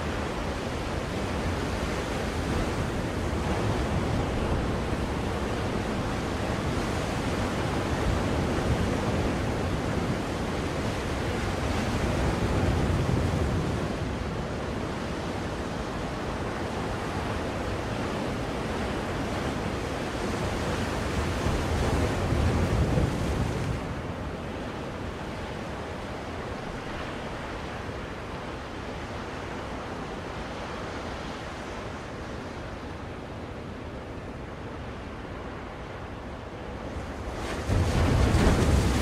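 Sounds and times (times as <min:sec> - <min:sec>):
ocean waves surf: 0:00.0 - 0:39.0.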